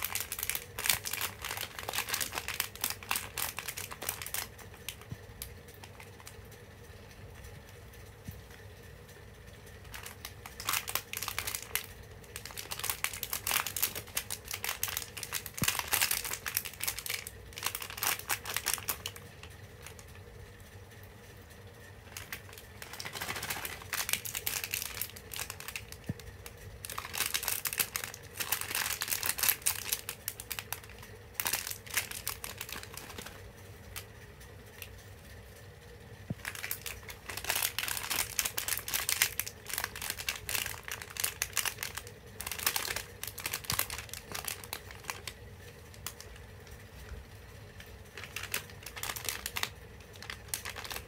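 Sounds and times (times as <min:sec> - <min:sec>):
plastic wrappers crinkling: 0:00.0 - 0:06.4, 0:09.7 - 0:20.2, 0:22.0 - 0:35.0, 0:36.3 - 0:51.0.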